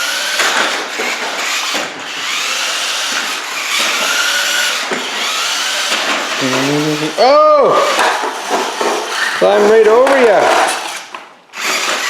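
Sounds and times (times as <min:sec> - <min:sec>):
toy truck electric motor whining: 0:00.0 - 0:09.9, 0:10.7 - 0:12.0.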